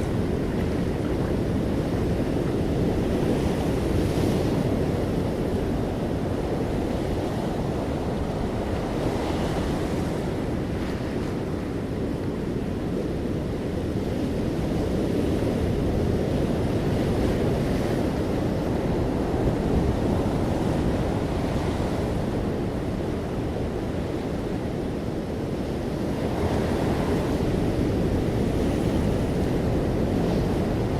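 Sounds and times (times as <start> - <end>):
waves breaking on shore: 0.0 - 30.9.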